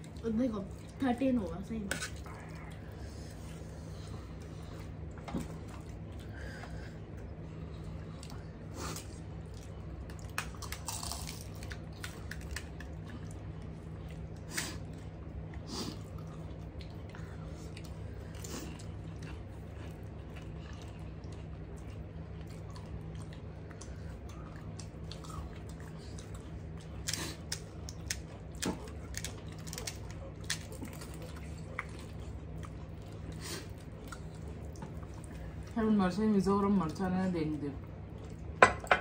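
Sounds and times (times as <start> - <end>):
chewing and crunching: 0.0 - 37.1, 37.8 - 38.6
steady low hum: 0.0 - 39.0.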